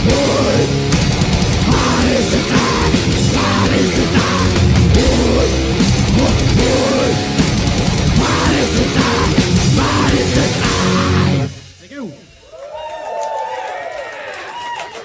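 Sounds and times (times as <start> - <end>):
grindcore band playing live: 0.0 - 12.6.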